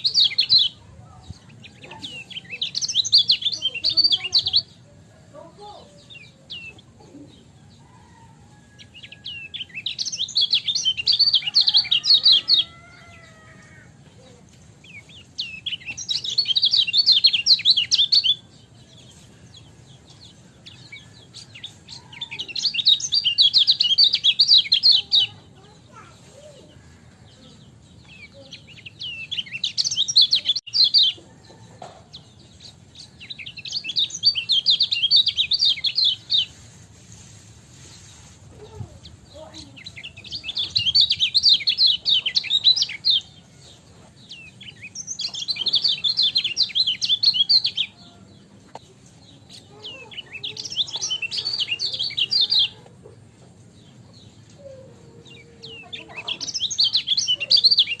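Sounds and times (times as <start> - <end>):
fainter lower bird calls: 0.0 - 31.9, 32.5 - 52.9.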